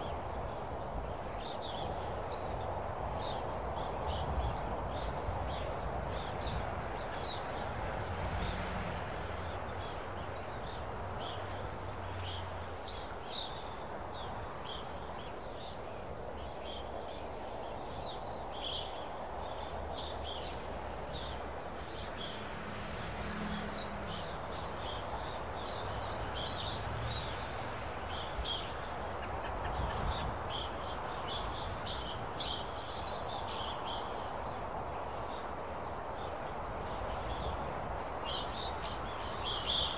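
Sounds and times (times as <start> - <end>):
insects and birds chirping: 0.0 - 39.9
noisy outdoor haze: 0.0 - 39.9.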